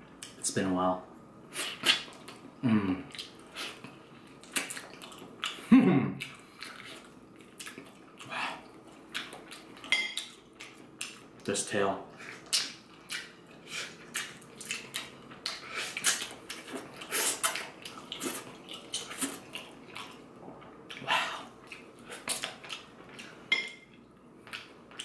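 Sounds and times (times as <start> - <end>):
person chewing and lip smacking: 1.6 - 11.5, 12.1 - 25.0.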